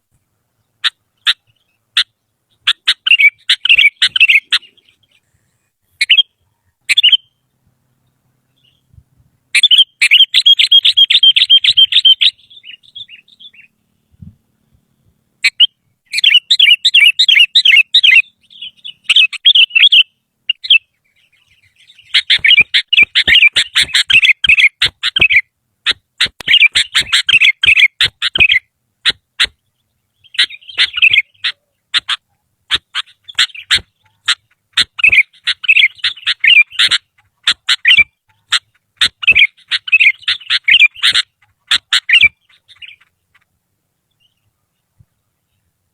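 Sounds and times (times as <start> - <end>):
bird singing chattering phrases: 0.6 - 45.7.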